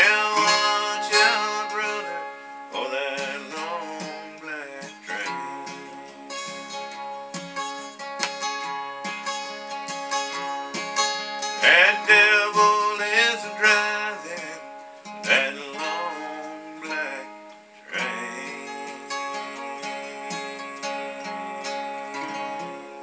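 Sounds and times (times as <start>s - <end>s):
acoustic guitar country tune: 0.0s - 23.0s.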